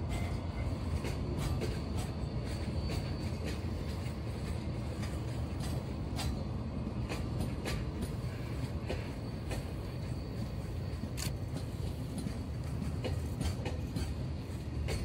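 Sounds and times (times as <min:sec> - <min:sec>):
train wheels rumbling on rail: 0:00.0 - 0:15.0
wheels clicking on track: 0:00.0 - 0:15.0.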